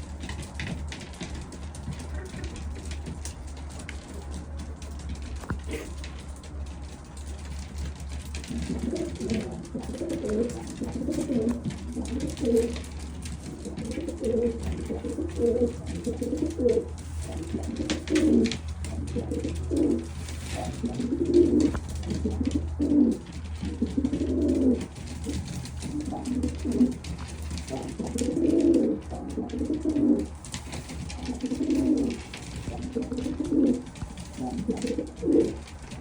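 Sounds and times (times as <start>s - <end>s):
pigeons cooing: 0.0s - 36.0s
steady low hum: 0.0s - 36.0s.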